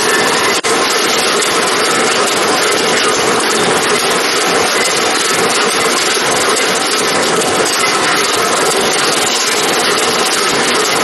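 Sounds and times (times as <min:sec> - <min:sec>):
packaging machinery running: 0:00.0 - 0:11.0.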